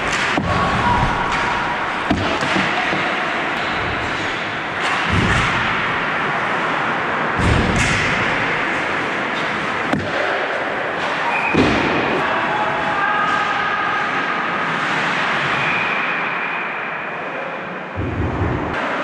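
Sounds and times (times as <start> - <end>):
hockey sticks and puck clacking: 0.0 - 16.3.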